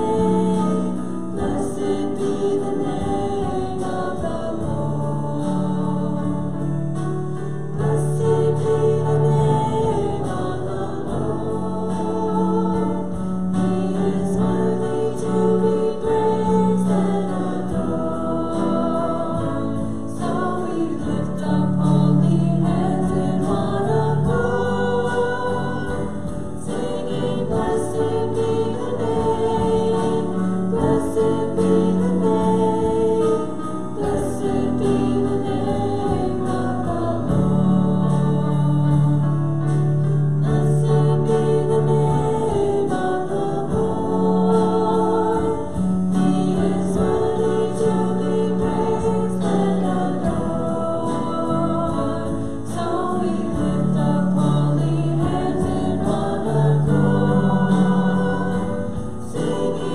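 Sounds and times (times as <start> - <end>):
congregation singing: 0.0 - 59.9
musical accompaniment: 0.0 - 59.9.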